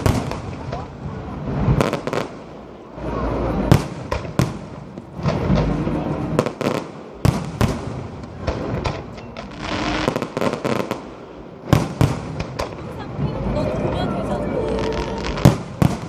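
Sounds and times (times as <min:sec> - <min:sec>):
firework booms: 0:00.0 - 0:13.2, 0:14.8 - 0:16.0
firework bangs and crackles: 0:00.0 - 0:16.0.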